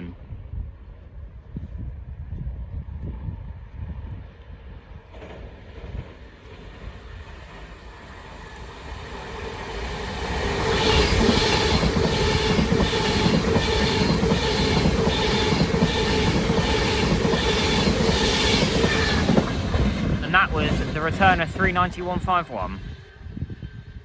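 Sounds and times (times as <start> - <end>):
electric train passing at speed: 0.2 - 24.0.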